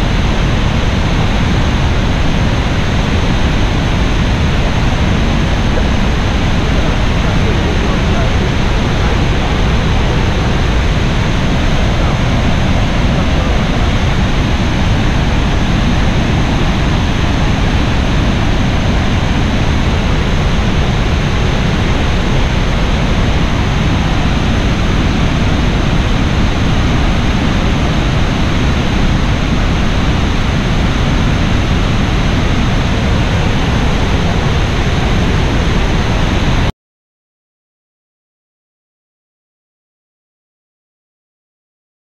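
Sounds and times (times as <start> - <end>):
waterfall rushing: 0.0 - 36.7.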